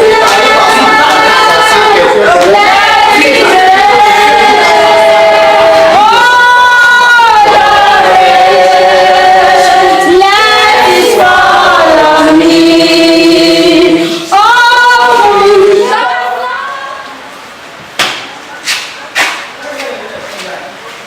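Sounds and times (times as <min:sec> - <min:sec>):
choir singing slow song: 0:00.0 - 0:17.6.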